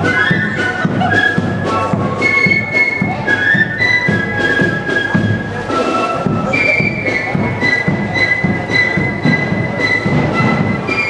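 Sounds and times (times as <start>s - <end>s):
flutes playing melody: 0.0s - 11.0s
marching drum beat: 0.0s - 11.0s.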